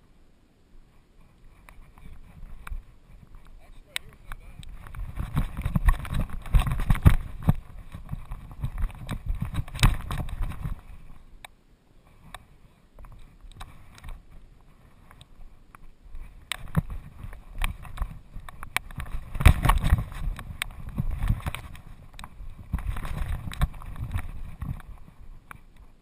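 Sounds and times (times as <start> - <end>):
harness jostling against camera: 1.2 - 11.2, 13.0 - 26.0.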